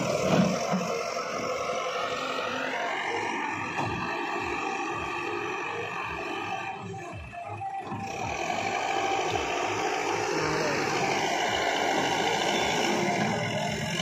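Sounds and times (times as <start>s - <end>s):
diesel engine running under load: 0.0s - 14.0s.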